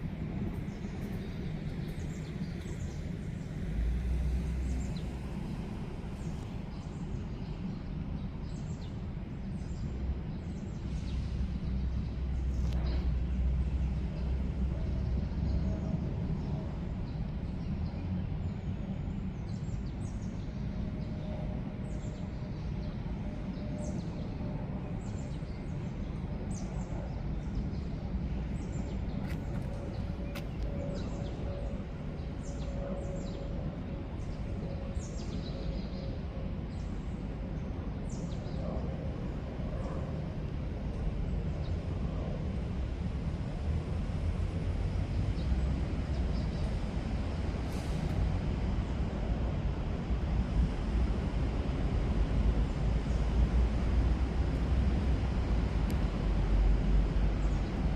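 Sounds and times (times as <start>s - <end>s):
steady low rumble: 0.0s - 57.9s.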